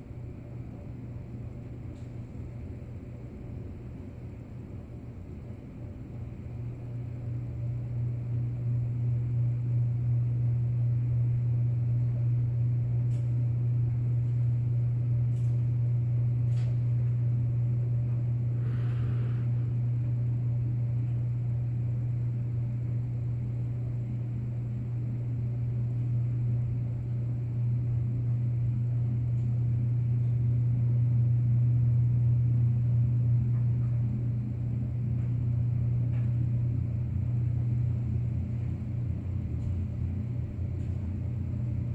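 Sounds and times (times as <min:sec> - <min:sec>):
low droning hum: 0:00.0 - 0:41.9.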